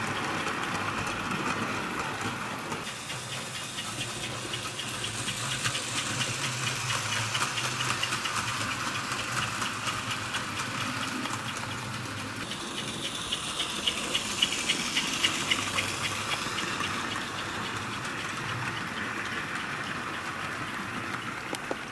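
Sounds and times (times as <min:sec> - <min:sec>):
model train motor hum: 0:00.0 - 0:21.9
wheels clicking on metal rails: 0:00.0 - 0:21.9.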